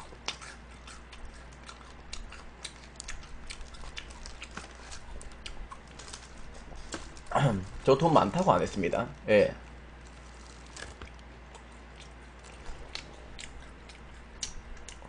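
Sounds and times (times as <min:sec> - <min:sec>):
crunching fried chicken: 0:00.0 - 0:08.9, 0:09.7 - 0:15.0.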